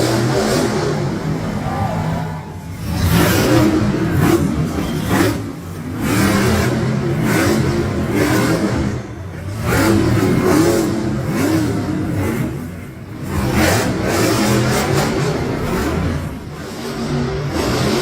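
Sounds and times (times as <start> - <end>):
monster truck engine revving: 0.0 - 18.0.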